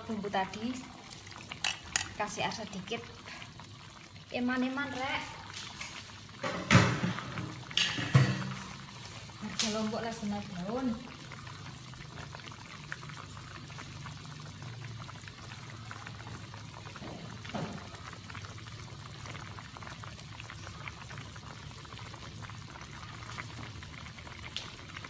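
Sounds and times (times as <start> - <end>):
stew bubbling with small pops: 0.0 - 25.0.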